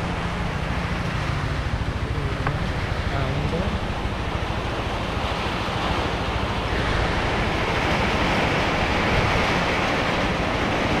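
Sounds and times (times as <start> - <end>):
motorcycle engine rumble: 0.0 - 9.1
wind and road noise: 0.0 - 11.0.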